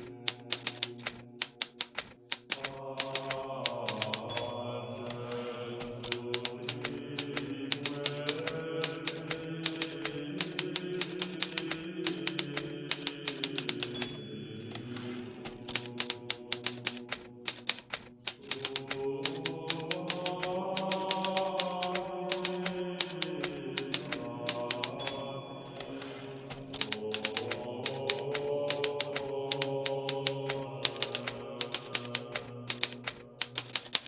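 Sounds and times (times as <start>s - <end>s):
typewriter keys striking: 0.0s - 34.0s
typewriter margin bell ring: 0.3s - 6.8s, 7.7s - 34.0s.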